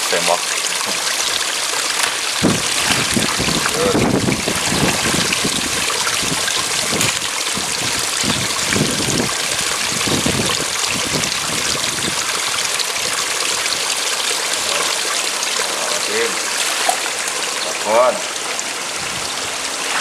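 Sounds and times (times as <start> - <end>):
running water flowing: 0.0 - 20.0.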